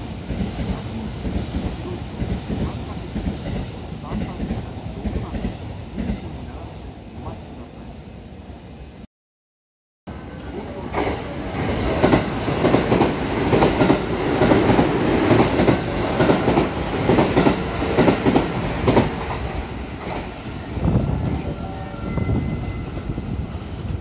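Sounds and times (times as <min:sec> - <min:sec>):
train rumble: 0:00.0 - 0:09.0, 0:10.1 - 0:24.0.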